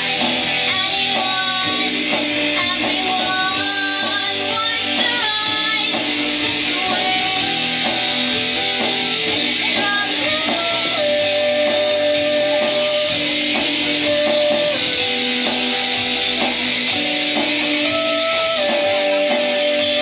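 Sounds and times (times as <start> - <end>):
bass guitar: 0.0 - 20.0
drums: 0.0 - 20.0
electric guitar: 0.0 - 20.0
held melody notes bending in pitch: 0.0 - 20.0.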